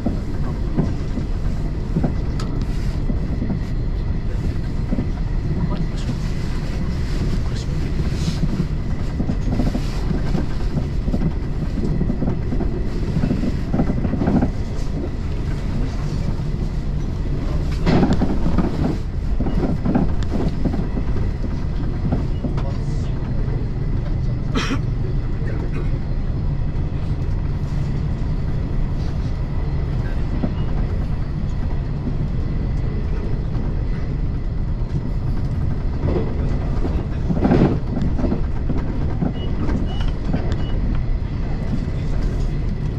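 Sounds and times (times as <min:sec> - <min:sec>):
train rumbling inside car: 0:00.0 - 0:42.9.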